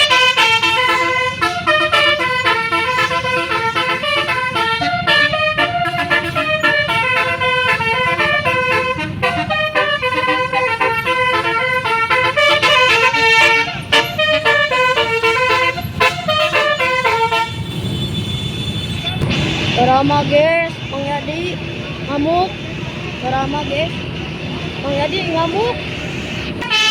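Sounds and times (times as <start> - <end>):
air horn playing fast melody: 0.0 - 26.9.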